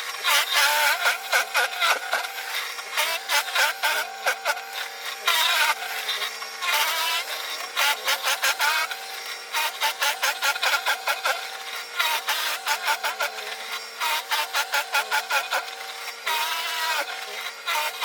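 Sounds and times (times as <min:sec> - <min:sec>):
electric motor hum: 0:00.0 - 0:18.0.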